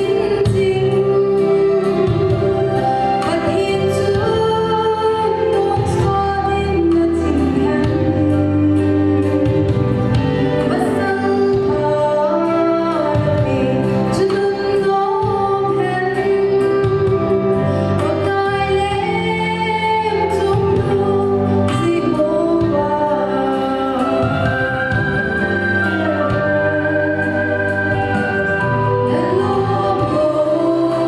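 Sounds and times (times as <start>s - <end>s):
instrumental backing: 0.0s - 31.0s
woman singing through pa: 0.0s - 31.0s.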